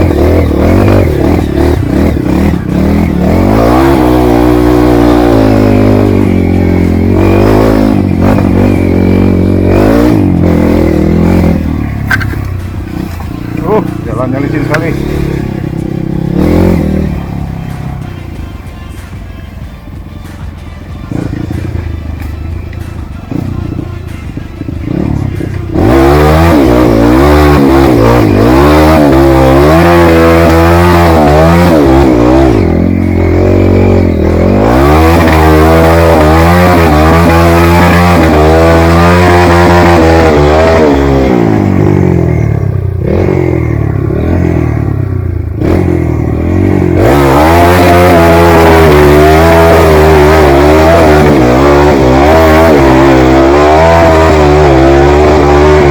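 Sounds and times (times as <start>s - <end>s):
dirt bike engine revving: 0.0s - 18.3s, 21.1s - 22.3s, 23.3s - 55.9s.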